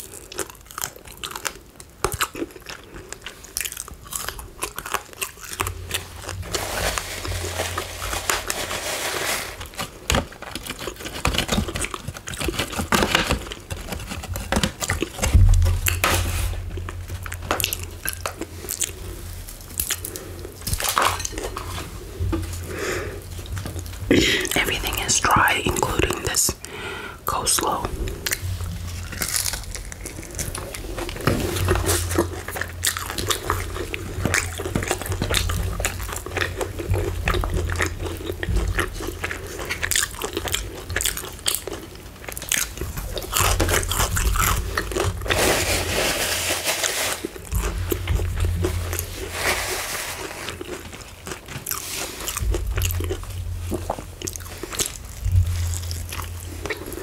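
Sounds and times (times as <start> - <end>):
wet chewing sounds: 0.0 - 8.6, 9.6 - 26.9, 27.6 - 45.6, 47.2 - 57.0
crunching fried chicken: 0.0 - 26.8, 28.1 - 57.0.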